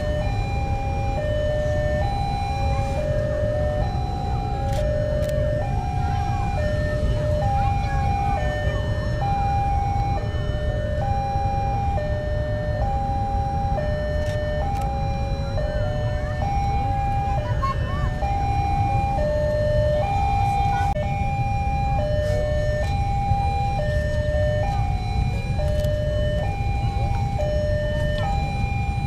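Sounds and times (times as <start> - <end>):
level crossing alarm tones: 0.0 - 29.0
steady low rumble: 0.0 - 29.0.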